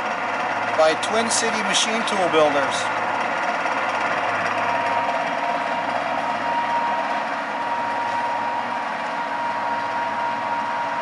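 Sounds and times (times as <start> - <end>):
lathe mechanical drone: 0.0 - 11.0
thin drive whine: 0.0 - 11.0.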